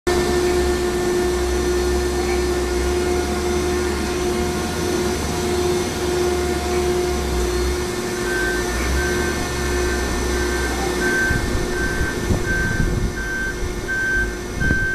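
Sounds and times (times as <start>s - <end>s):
baler machinery humming and whining: 0.1s - 14.9s.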